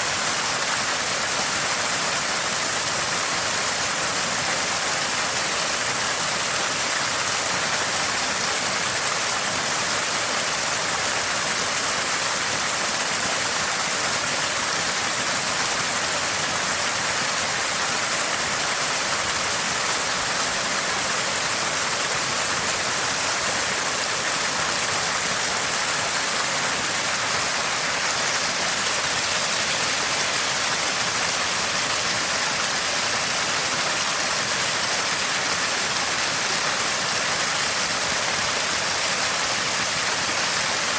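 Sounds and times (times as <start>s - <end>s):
water gurgling from a spring: 0.0s - 40.9s.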